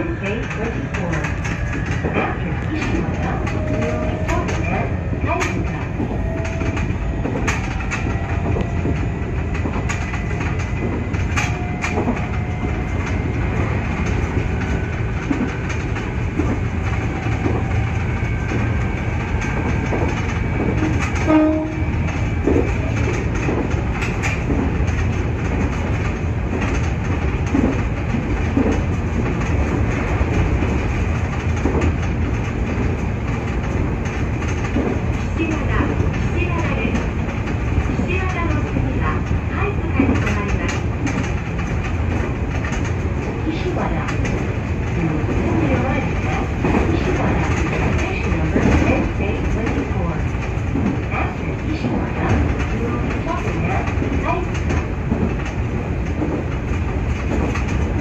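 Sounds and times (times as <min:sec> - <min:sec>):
rail-joint clicks: 0:00.0 - 0:58.0
train wheels rumbling on rails: 0:00.0 - 0:58.0.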